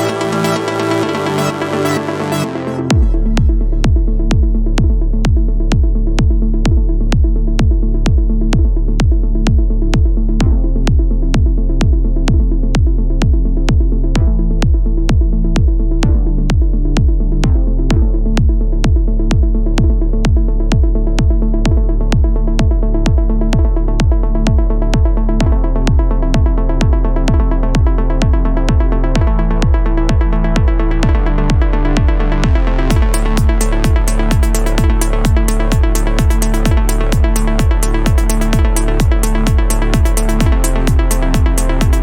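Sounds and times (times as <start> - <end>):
kick drum: 0.0 - 42.0
repeating bass line: 0.0 - 42.0.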